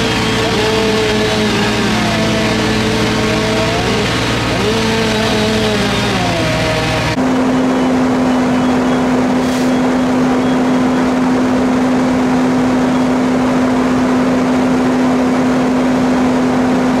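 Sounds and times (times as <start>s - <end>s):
engine running with loud hum: 0.0s - 17.0s.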